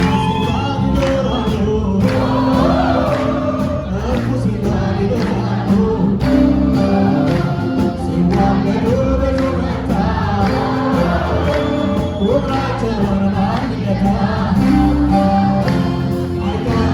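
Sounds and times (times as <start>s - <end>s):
choir singing: 0.0s - 16.9s
instrumental backing: 0.0s - 16.9s.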